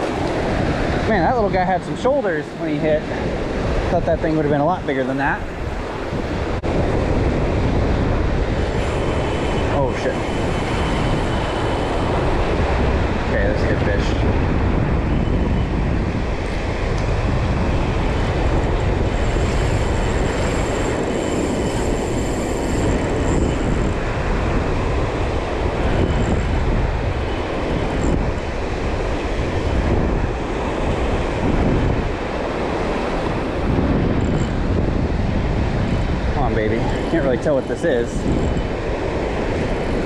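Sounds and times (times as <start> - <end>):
surf breaking on beach: 0.0 - 40.0
wind buffeting microphone: 0.0 - 40.0.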